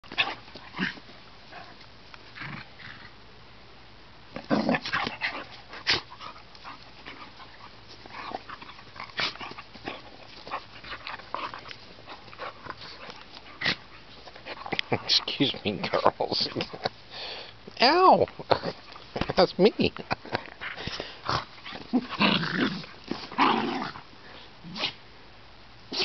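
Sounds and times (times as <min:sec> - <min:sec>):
dogs play growling: 0:00.0 - 0:03.2, 0:04.3 - 0:17.6, 0:18.3 - 0:25.0.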